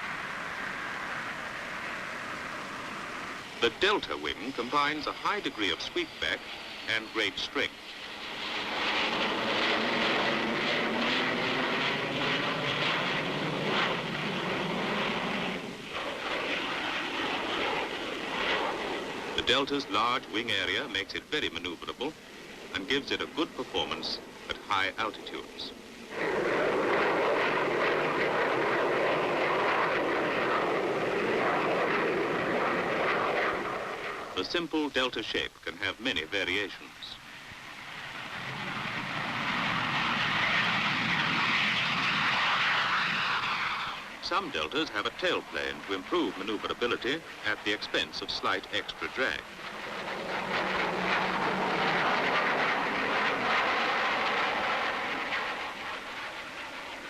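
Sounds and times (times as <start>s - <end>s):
jet engine rushing: 0.0s - 57.0s.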